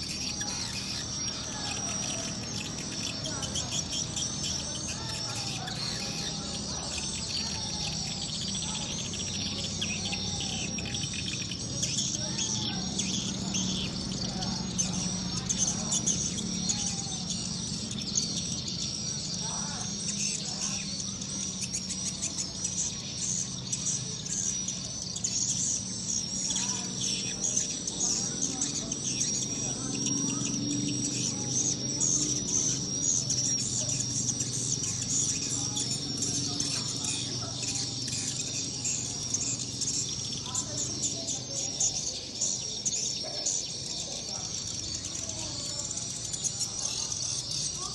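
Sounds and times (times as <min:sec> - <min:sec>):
steady high-pitched tone: 0:00.0 - 0:47.9
swiftlet twittering: 0:00.0 - 0:47.9.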